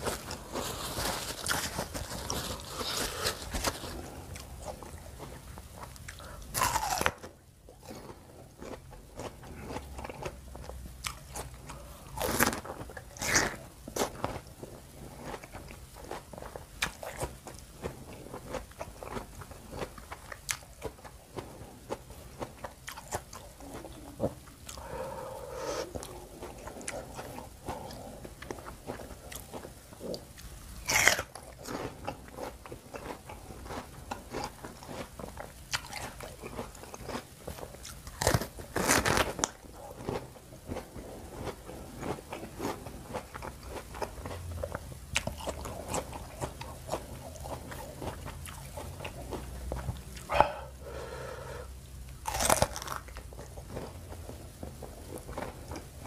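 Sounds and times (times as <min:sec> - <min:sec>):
crisp biting and chewing fruit: 0:00.0 - 0:51.0, 0:52.1 - 0:56.0.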